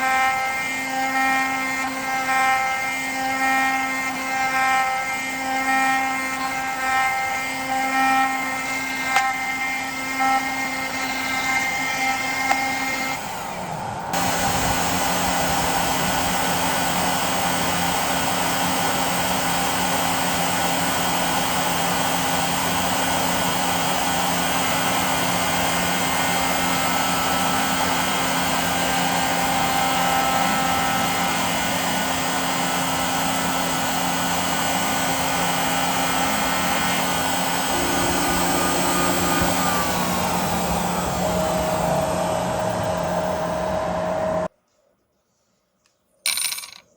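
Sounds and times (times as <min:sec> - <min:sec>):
router spindle whine: 0:00.0 - 0:44.5.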